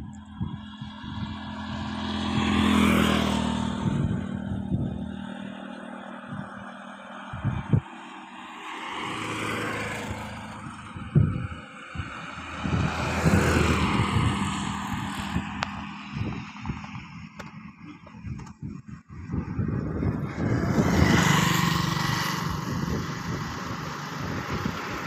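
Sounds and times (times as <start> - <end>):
vehicles passing close by: 0.0 - 25.0.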